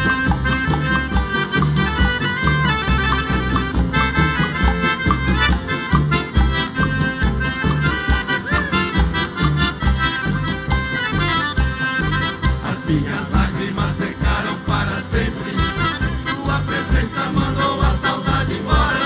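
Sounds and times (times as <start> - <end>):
accordion melody: 0.0 - 19.0
live band playing country music: 0.0 - 19.0.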